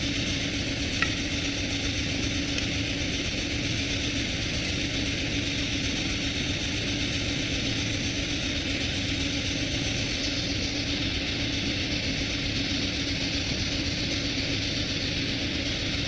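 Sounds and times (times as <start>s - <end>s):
mechanical hum and hiss: 0.0s - 16.0s.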